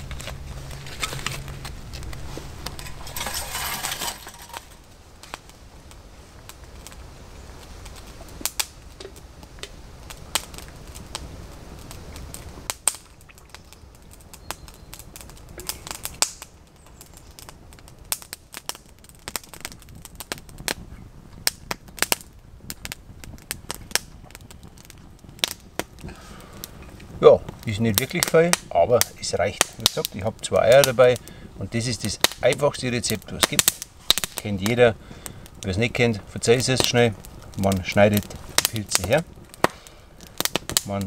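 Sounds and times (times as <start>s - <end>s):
dry wood snapping and popping: 0.0s - 7.0s, 7.6s - 41.0s.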